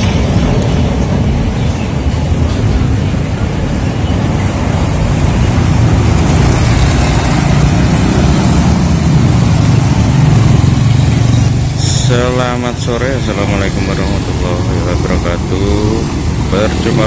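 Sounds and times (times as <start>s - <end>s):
motorcycles and cars passing: 0.0s - 17.0s.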